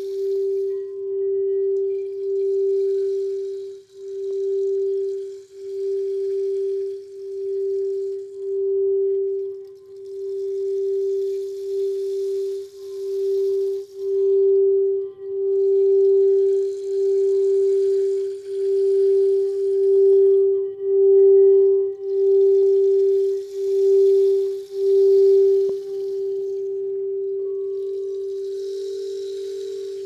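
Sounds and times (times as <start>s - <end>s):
singing bowl sustained tone: 0.0s - 30.0s
soft hiss: 0.0s - 30.0s.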